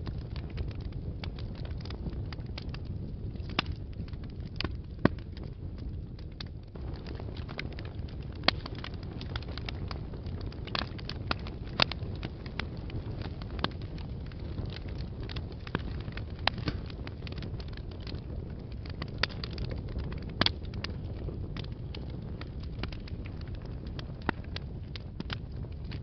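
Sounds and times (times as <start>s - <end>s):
burning logs crackling and popping: 0.0s - 26.0s
low rumble of flames: 0.0s - 26.0s.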